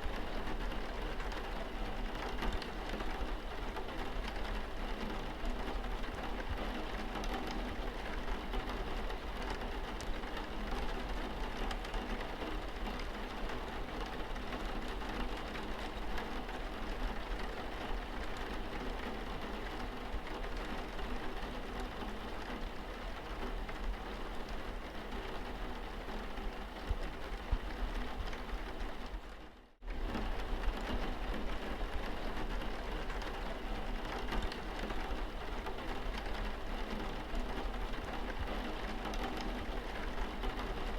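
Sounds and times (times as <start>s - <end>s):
rain pattering on car windscreen: 0.0s - 40.9s.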